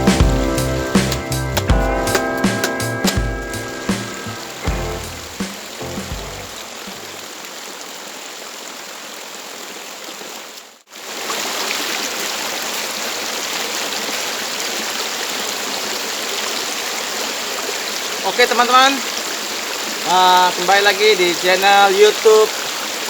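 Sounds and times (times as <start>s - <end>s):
flowing river water: 0.0s - 23.0s.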